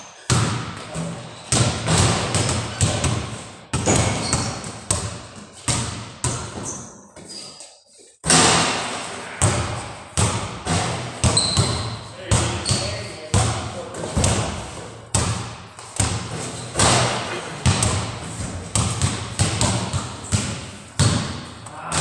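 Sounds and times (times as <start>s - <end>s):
basketballs bouncing on hard floor: 0.2s - 7.4s, 8.2s - 22.0s.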